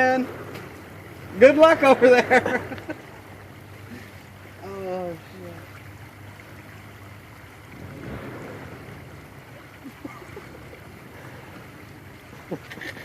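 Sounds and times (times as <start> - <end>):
water rushing in a creek: 0.0 - 13.0.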